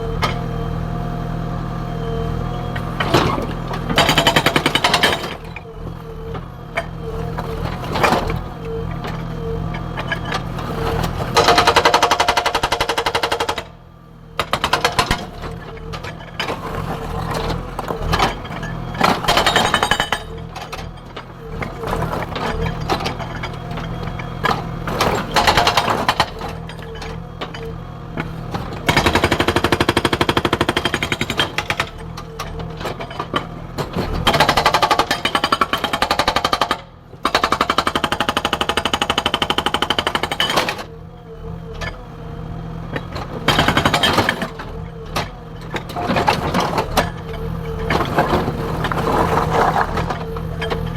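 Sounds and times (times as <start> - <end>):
diesel engine running: 0.0 - 50.9
hydraulic rock breaker hammering: 2.8 - 5.7, 6.3 - 13.7, 14.4 - 41.0, 42.9 - 50.9.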